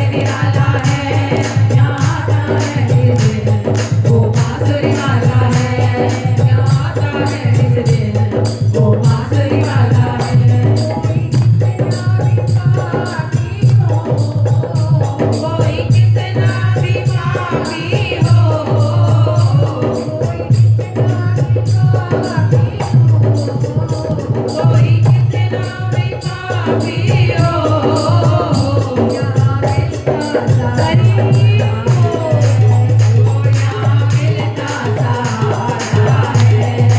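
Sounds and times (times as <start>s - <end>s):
percussion with jingles: 0.0s - 36.9s.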